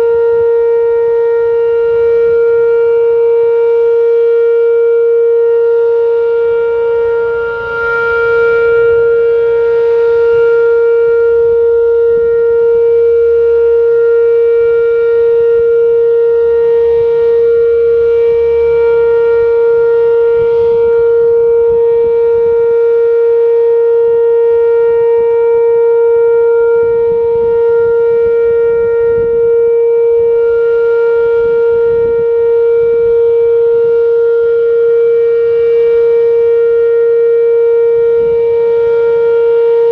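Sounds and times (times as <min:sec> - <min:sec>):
steady siren tone: 0:00.0 - 0:39.9.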